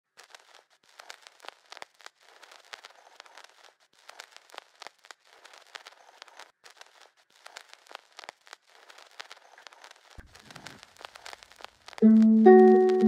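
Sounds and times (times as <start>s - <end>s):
faint hiss: 0.1s - 13.0s
irregular crackling and clicking: 0.1s - 13.0s.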